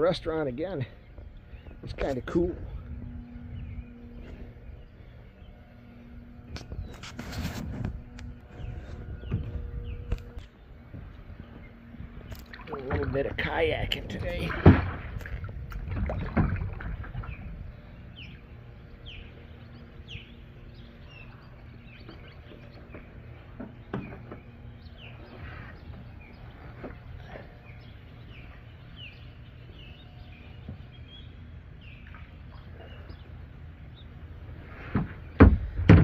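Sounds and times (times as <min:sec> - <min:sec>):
low steady rumble: 0:00.0 - 0:36.0
small birds chirping: 0:00.1 - 0:14.5, 0:17.1 - 0:34.6.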